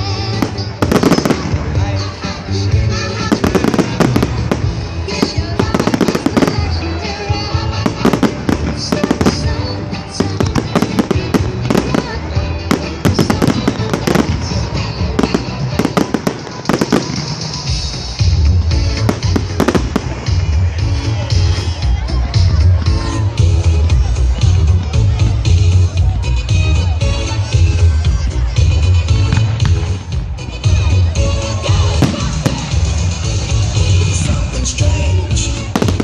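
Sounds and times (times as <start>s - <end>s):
fireworks bangs and crackling: 0.0s - 26.2s, 29.0s - 36.0s
loud music with heavy bass: 0.0s - 36.0s.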